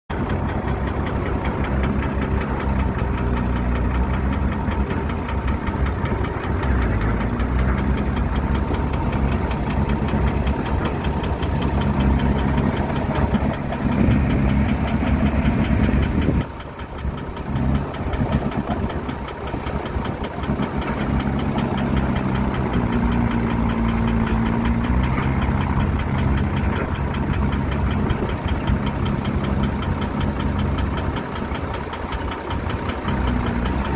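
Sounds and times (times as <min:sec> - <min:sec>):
heavy construction machine engine: 0:00.1 - 0:33.9.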